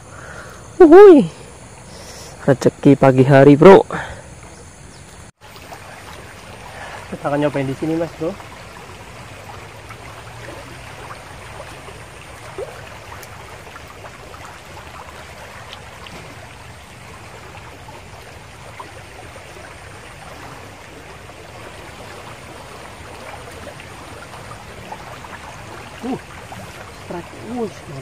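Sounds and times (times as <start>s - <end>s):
river water rushing: 5.4s - 28.0s.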